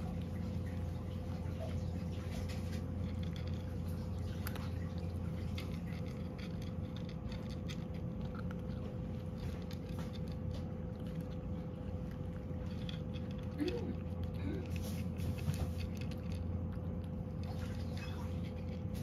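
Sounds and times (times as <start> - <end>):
cat crunching dry kibble: 0.0 - 19.0
steady low hum: 0.0 - 19.0.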